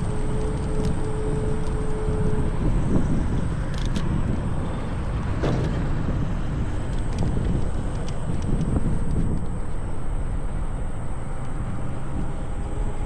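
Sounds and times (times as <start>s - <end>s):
road noise: 0.0s - 13.0s
steady hum: 0.0s - 13.0s
wind rumble: 0.0s - 13.0s.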